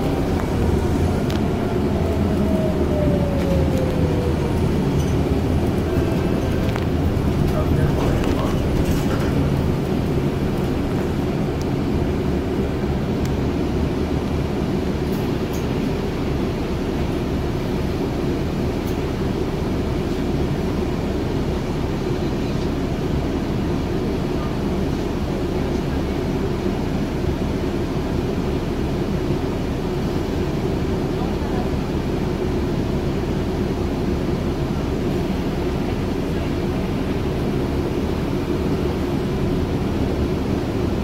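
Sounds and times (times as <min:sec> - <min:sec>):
bus engine drone: 0:00.0 - 0:41.0.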